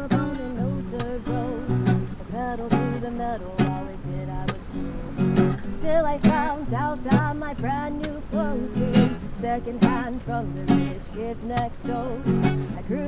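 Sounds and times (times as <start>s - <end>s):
person singing: 0.0s - 13.0s
strummed acoustic guitar: 0.0s - 13.0s.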